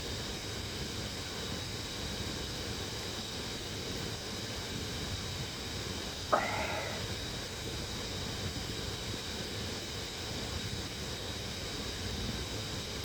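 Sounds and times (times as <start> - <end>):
fan noise with high whine: 0.0 - 13.0.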